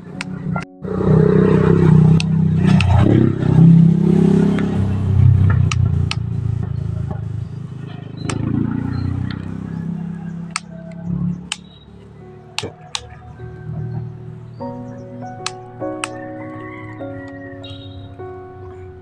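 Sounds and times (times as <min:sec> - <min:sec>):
wavering engine-like rumble: 0:00.0 - 0:19.0.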